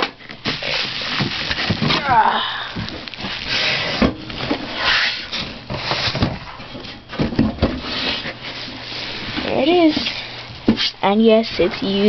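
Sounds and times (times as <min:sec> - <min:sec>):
packaging rustling: 0:00.1 - 0:10.4.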